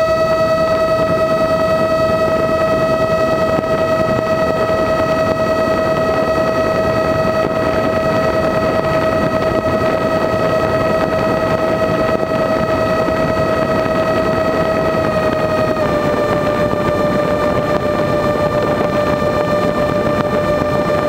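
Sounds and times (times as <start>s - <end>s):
propeller motors whining: 0.0s - 21.0s
wind rush on microphone: 0.0s - 21.0s.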